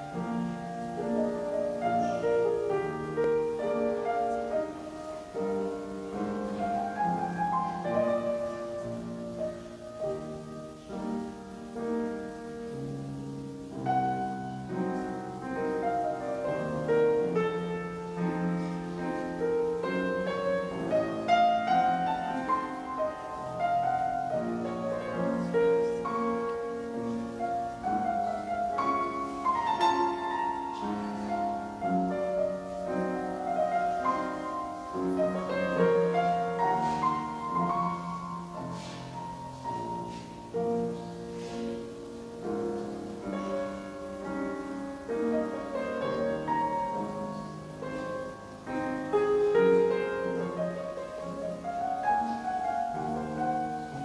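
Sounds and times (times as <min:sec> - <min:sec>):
solo keyboard music: 0:00.0 - 0:54.0.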